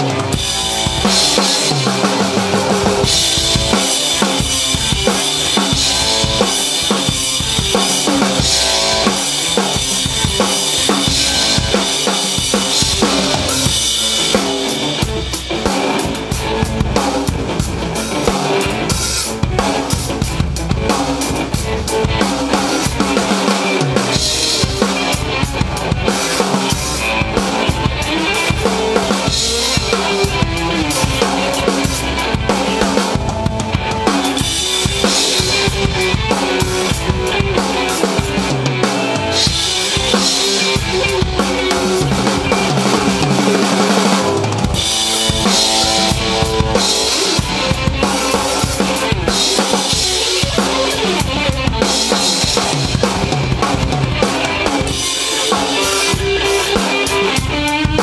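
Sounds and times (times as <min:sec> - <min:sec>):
drum kit rock groove: 0:00.0 - 0:58.0
electric guitar: 0:00.0 - 0:58.0.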